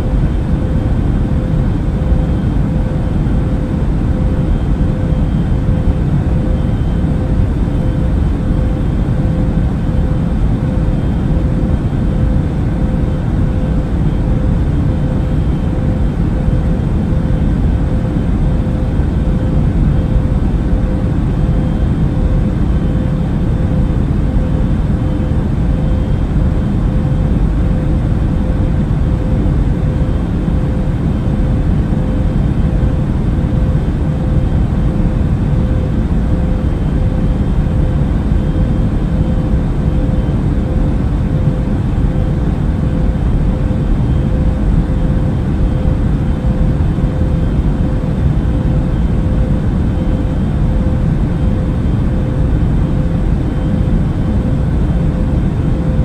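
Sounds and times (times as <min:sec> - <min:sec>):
airplane engines and airflow rumble: 0:00.0 - 0:56.0
constant hum: 0:00.0 - 0:56.0.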